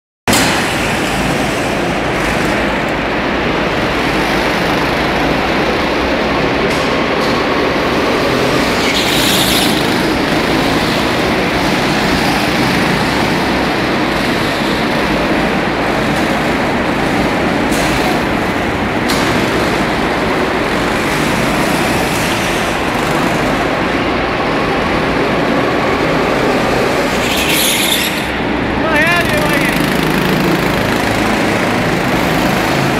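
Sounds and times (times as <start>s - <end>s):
go-kart engines running: 0.3s - 32.9s.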